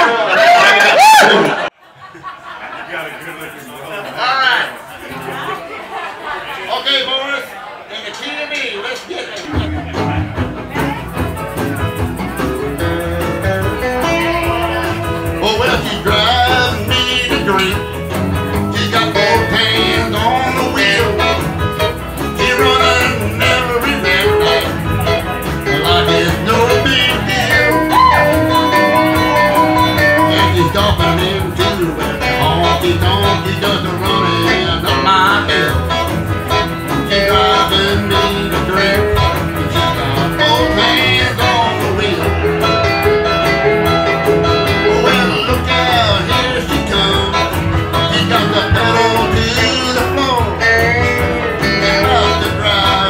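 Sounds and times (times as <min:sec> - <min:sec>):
live country band: 0:00.0 - 0:53.0
electric guitar: 0:09.5 - 0:53.0.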